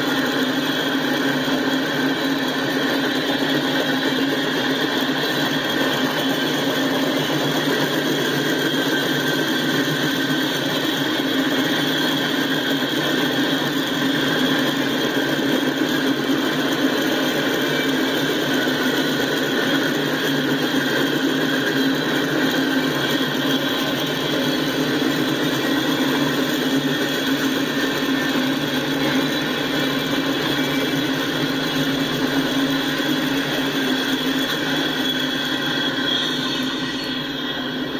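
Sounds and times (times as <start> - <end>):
steel train wheels on rails: 0.0 - 37.9.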